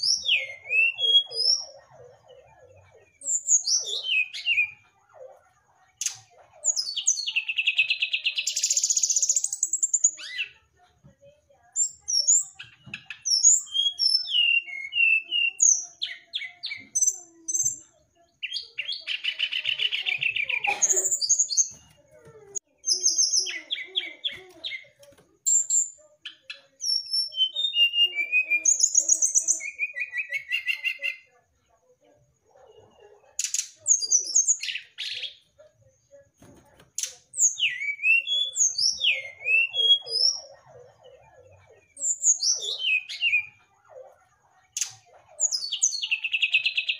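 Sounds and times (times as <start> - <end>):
bird singing whistled notes and trills: 0.0 - 10.6, 11.8 - 21.9, 22.8 - 31.3, 37.0 - 46.9.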